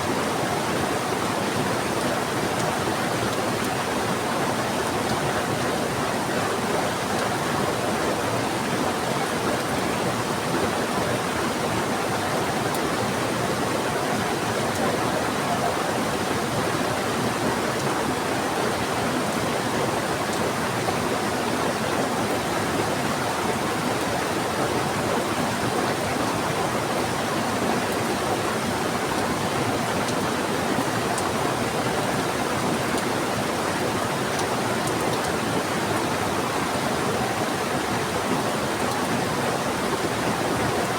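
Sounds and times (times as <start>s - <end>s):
river rushing: 0.0s - 40.9s
heavy rain falling: 0.2s - 40.9s.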